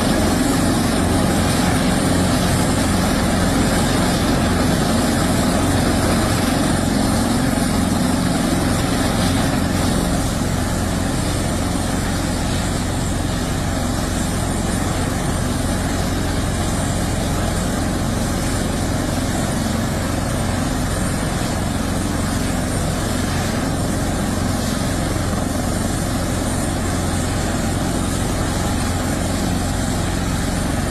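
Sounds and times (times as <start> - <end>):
helicopter running: 0.0 - 30.9.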